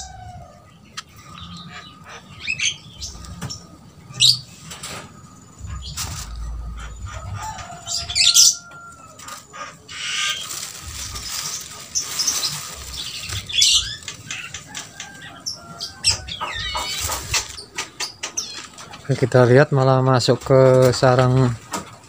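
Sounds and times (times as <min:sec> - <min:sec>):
harsh scratchy bird calls: 0:00.0 - 0:22.0.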